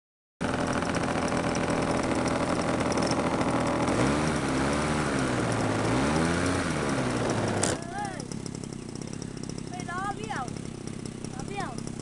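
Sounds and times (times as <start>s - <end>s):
model airplane engine running: 0.4s - 12.0s.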